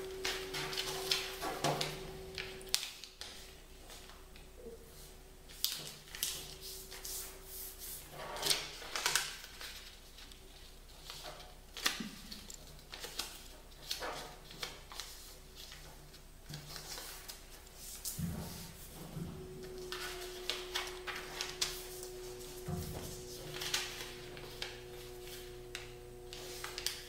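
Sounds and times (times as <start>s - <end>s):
faint steady hum: 0.0s - 27.0s
paper rustling and crinkling: 0.1s - 4.2s, 4.9s - 27.0s.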